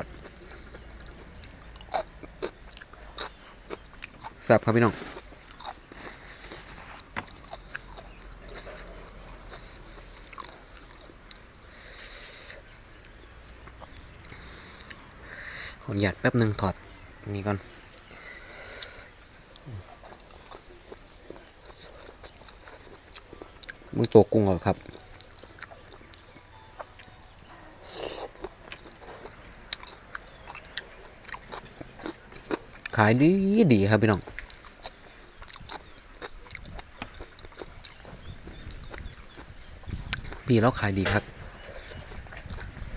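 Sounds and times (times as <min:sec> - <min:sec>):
close-up chewing: 0:00.0 - 0:42.9.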